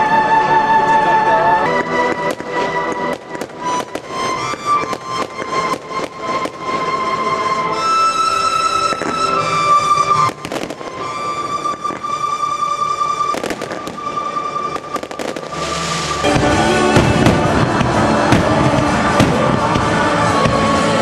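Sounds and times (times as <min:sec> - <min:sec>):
music: 0:00.0 - 0:21.0
fireworks bursting: 0:01.7 - 0:21.0.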